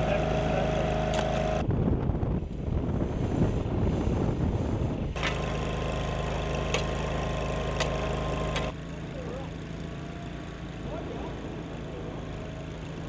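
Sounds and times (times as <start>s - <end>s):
loader engine running: 0.0s - 1.7s, 2.9s - 13.0s.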